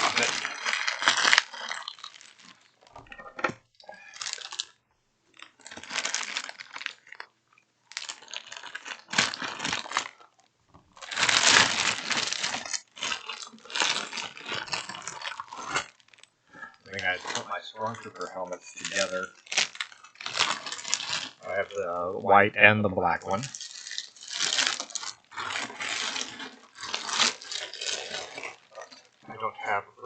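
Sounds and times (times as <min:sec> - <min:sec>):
packaging crinkling and tearing: 0:00.0 - 0:04.8, 0:05.4 - 0:07.3, 0:07.9 - 0:21.8, 0:23.3 - 0:29.3.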